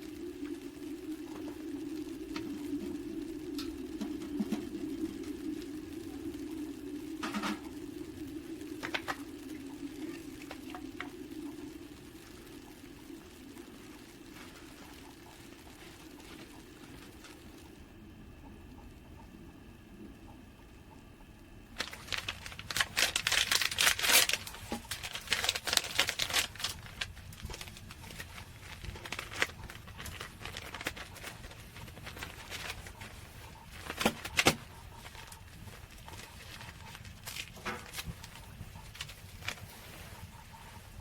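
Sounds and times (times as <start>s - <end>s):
crinkling and rustling: 0.0s - 17.8s, 21.8s - 41.0s.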